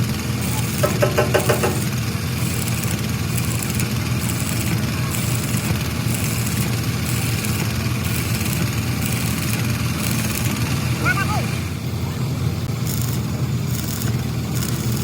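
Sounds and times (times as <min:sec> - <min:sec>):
large engine idling: 0:00.0 - 0:15.0.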